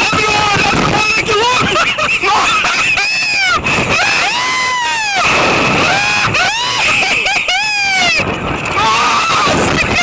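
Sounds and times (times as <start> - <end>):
riders screaming: 0.0 - 10.0.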